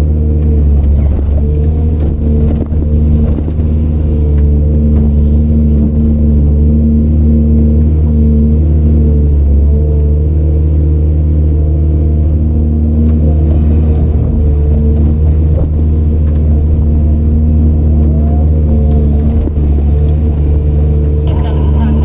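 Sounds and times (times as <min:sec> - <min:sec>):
heavy diesel engine droning: 0:00.0 - 0:22.0.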